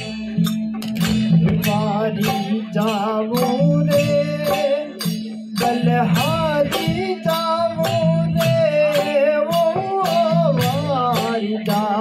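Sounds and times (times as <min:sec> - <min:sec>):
hand drum beats: 0:00.0 - 0:12.0
plucked string instrument: 0:00.0 - 0:12.0.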